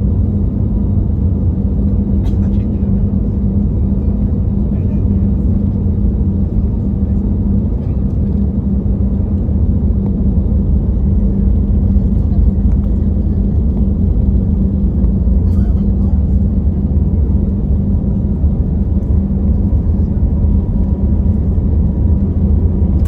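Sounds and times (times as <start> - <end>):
airplane cabin engine rumble: 0.0 - 23.0
constant hum: 0.0 - 23.0.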